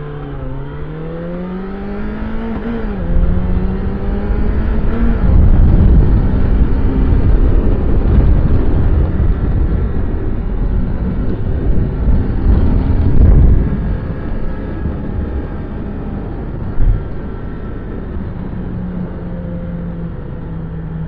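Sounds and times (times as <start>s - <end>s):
motorcycle engine and exhaust: 0.0s - 21.0s
wind rumble on microphone: 0.0s - 21.0s.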